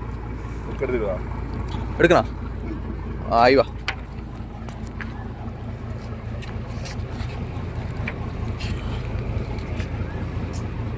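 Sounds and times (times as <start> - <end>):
low engine drone: 0.0 - 10.9.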